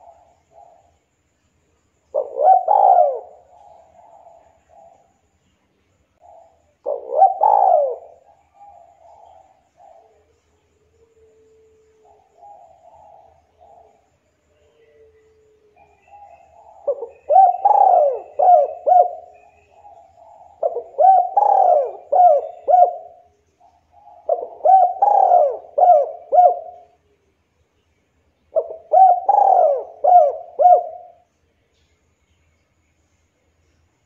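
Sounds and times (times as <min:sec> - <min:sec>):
dove cooing: 0:00.0 - 0:01.0, 0:02.1 - 0:05.1, 0:06.2 - 0:27.0, 0:28.5 - 0:31.3.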